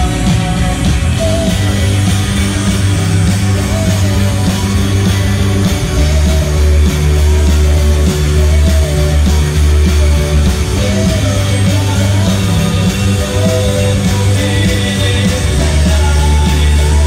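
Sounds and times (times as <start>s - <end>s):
rock band playing loudly: 0.0s - 17.0s.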